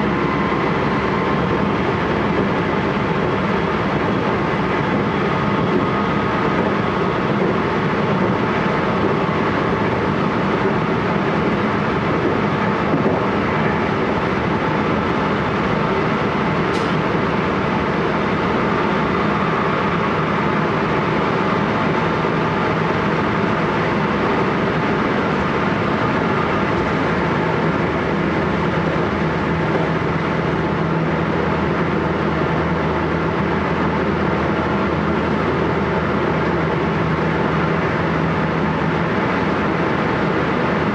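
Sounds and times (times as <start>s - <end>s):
train running noise: 0.0s - 40.9s.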